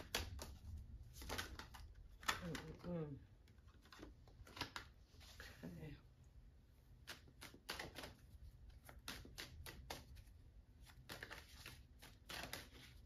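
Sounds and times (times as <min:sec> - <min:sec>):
cards being shuffled: 0:00.0 - 0:05.6, 0:06.9 - 0:13.0.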